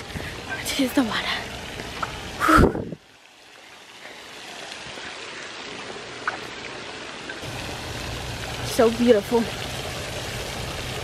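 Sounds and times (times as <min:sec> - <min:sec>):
fountain spray splashing: 0:00.0 - 0:11.0.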